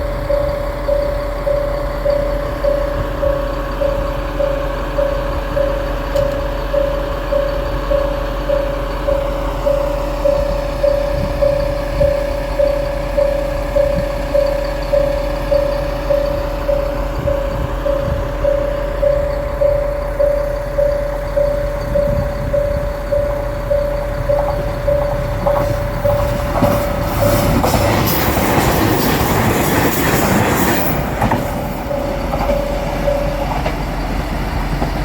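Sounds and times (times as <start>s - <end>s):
level-crossing warning bell: 0.0s - 35.0s
low engine rumble: 0.0s - 35.0s.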